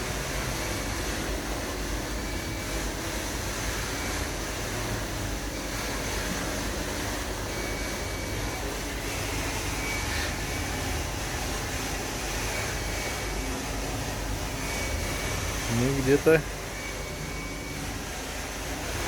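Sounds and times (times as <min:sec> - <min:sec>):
low workshop rumble: 0:00.0 - 0:19.0.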